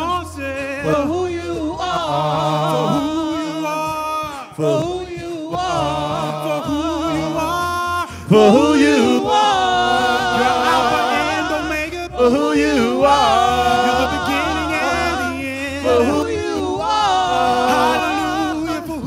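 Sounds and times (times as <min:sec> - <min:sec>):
gospel group singing: 0:00.0 - 0:19.0
keyboard accompaniment: 0:00.0 - 0:19.0.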